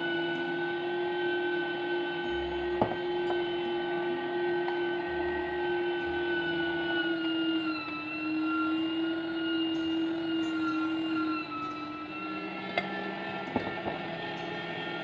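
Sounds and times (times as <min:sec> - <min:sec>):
meat grinder motor whine: 0:00.0 - 0:15.0.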